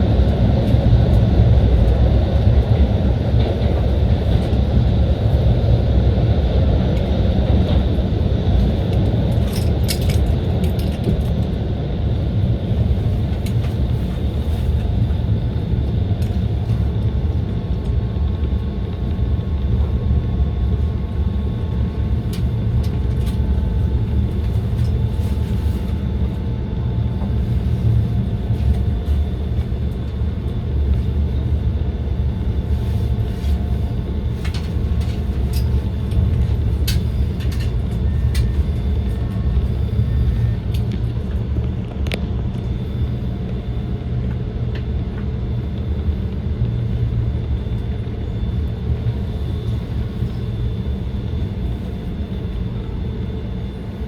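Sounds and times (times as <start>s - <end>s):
trolley rumbling on track: 0.0s - 54.0s.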